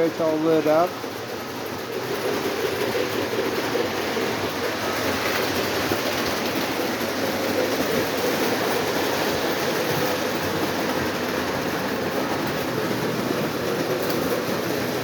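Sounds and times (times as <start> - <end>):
toy trains rumbling on track: 0.0 - 15.0.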